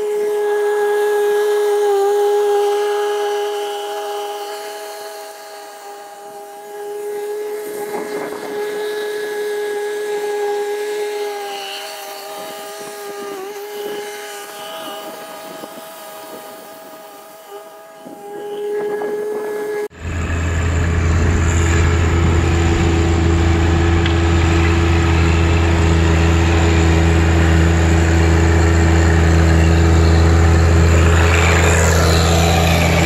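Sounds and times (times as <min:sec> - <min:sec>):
tractor engine and mower drone: 0:00.0 - 0:33.0.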